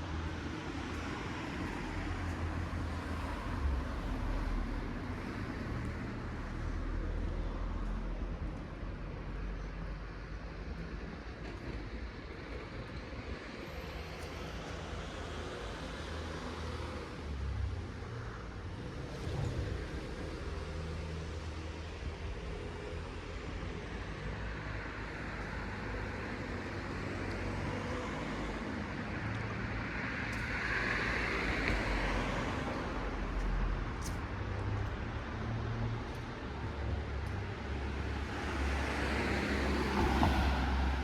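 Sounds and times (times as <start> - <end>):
traffic noise wash: 0.0 - 41.0.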